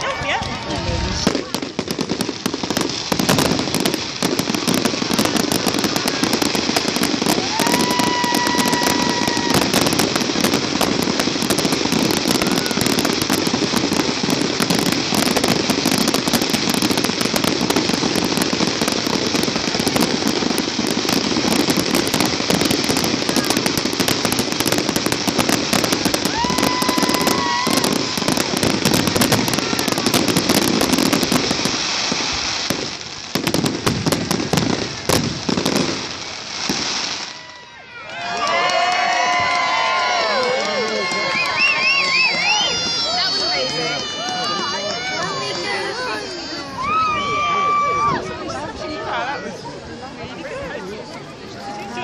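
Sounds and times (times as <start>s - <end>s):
fireworks crackling and popping: 0.0s - 52.0s
fireworks whistle: 0.9s - 38.6s, 39.2s - 48.2s.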